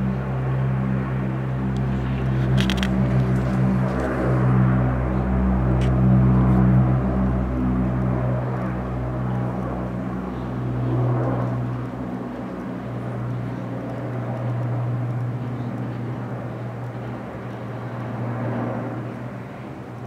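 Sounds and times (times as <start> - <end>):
turboprop engines droning: 0.0 - 20.0.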